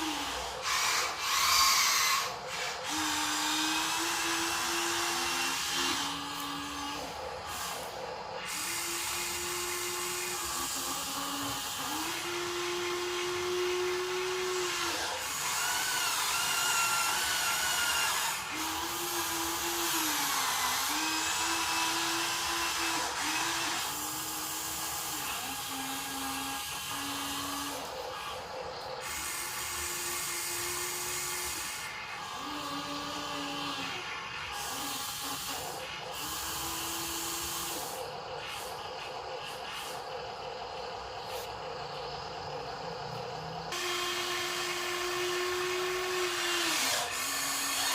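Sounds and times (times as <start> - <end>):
higher motor whine: 0.0 - 47.9
small electric motors whining: 0.0 - 47.9.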